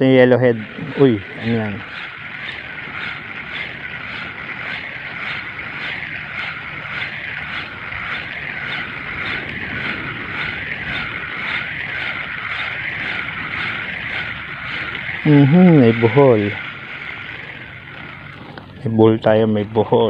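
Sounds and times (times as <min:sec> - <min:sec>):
fishing reel whirring: 0:00.0 - 0:20.0.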